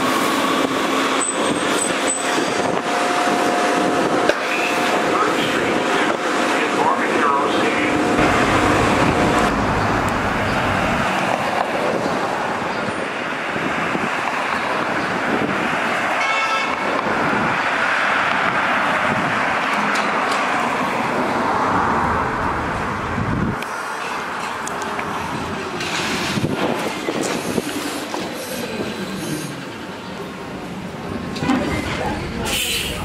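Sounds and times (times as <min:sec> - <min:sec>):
car and tyre noise: 0:00.0 - 0:30.2
trolleybus passing: 0:00.0 - 0:33.0.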